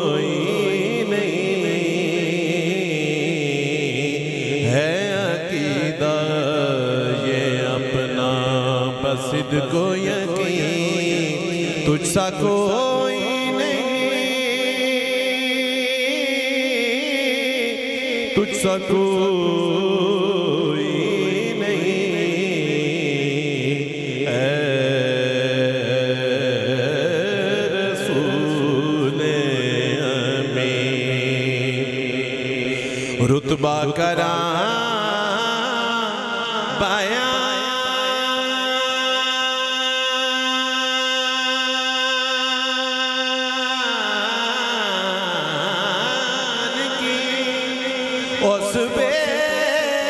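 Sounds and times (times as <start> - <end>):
man singing through microphone: 0.0 - 50.0.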